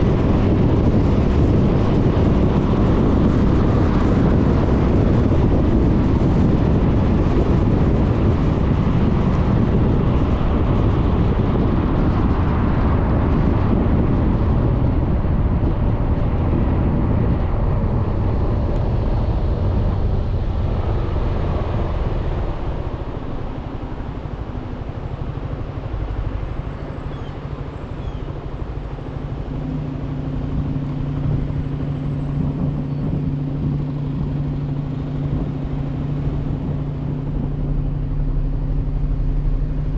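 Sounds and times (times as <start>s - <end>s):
road noise: 0.0s - 39.9s
scooter engine hum: 0.0s - 39.9s
wind rush on microphone: 0.0s - 39.9s.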